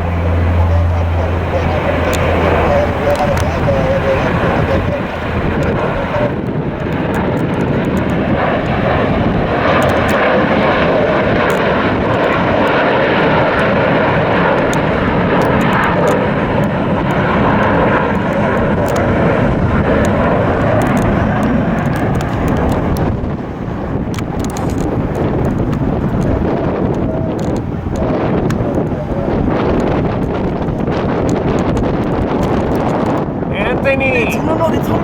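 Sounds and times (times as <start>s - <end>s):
airliner engines running: 0.0s - 35.0s.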